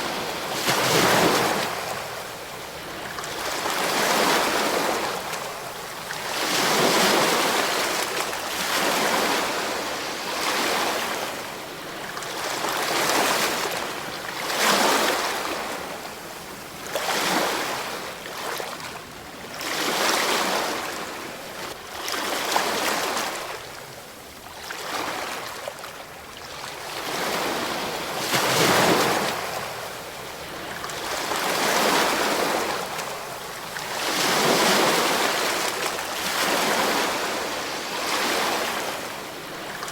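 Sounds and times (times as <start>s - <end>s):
ocean waves breaking on shore: 0.0s - 23.8s, 24.5s - 39.9s.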